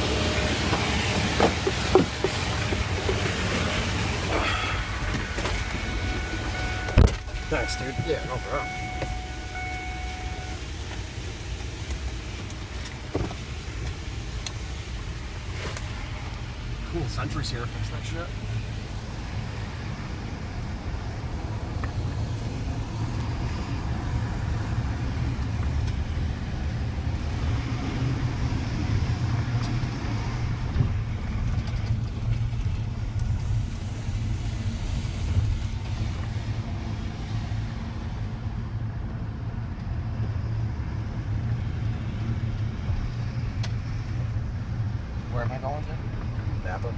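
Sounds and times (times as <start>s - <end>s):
truck engine rumbling: 0.0s - 46.9s.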